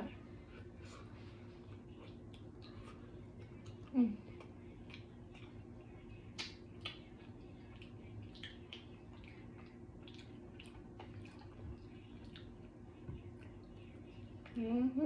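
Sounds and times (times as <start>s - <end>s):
wet chewing and lip smacks: 1.6s - 14.6s.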